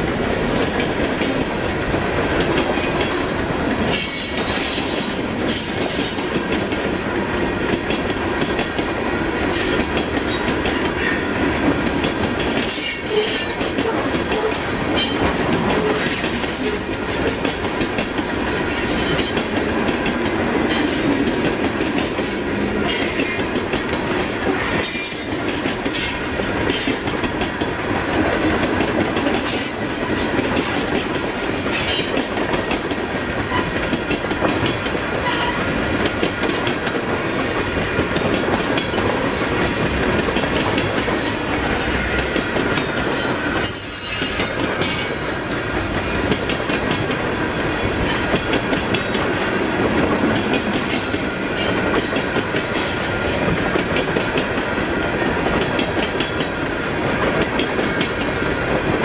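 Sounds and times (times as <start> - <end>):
train wheels clacking on rail joints: 0.0 - 59.0.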